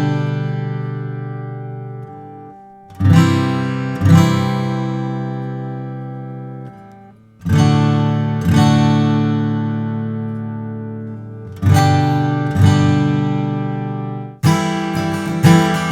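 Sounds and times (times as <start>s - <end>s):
acoustic guitar chords strummed: 0.0s - 15.9s.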